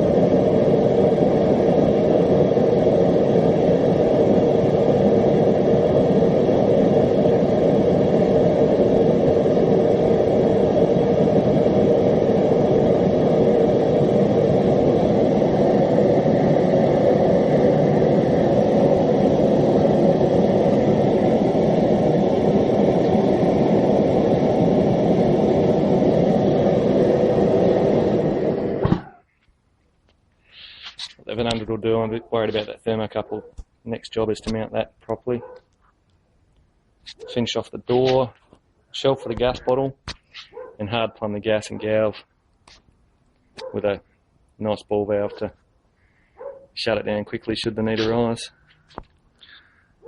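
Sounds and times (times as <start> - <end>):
gas forge burners roaring: 0.0 - 50.0.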